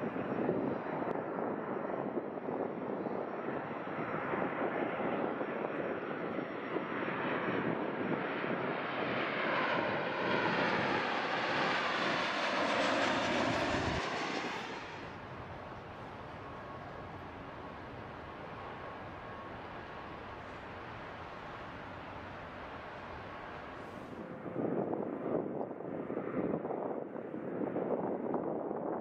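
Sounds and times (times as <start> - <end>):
jet airliner passing: 0.0 - 28.9.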